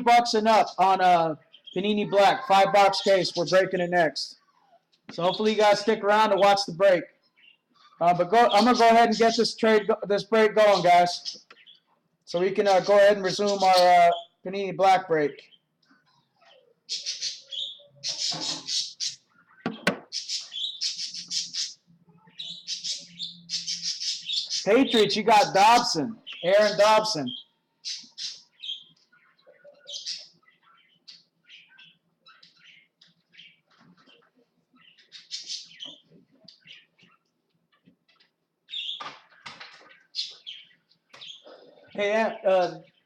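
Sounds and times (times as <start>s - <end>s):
bird chirping: 0.0s - 43.0s.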